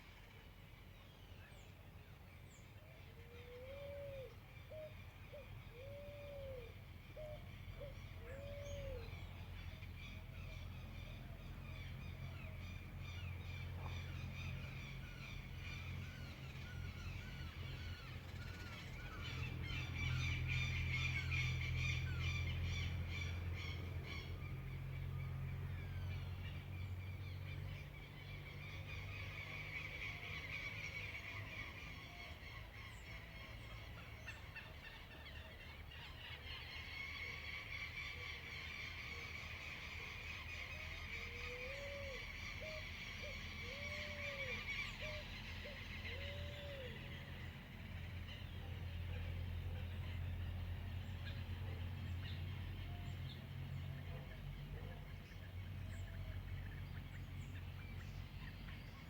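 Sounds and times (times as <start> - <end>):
small birds twittering and singing: 0.0 - 59.0.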